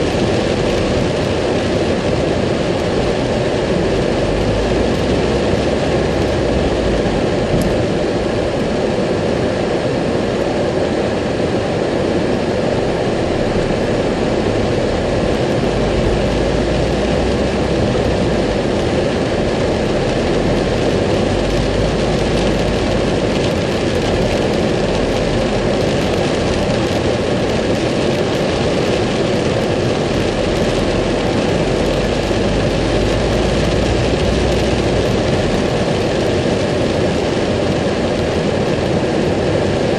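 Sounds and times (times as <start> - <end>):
car running: 0.0 - 39.9
rain on car roof: 0.0 - 39.9
tyres on wet road: 0.0 - 39.9.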